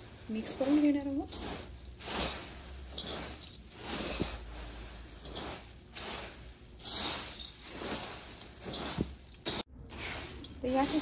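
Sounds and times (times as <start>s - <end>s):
puffed rice rustling in pan: 0.0s - 11.0s
spatula scraping metal pan: 0.0s - 11.0s.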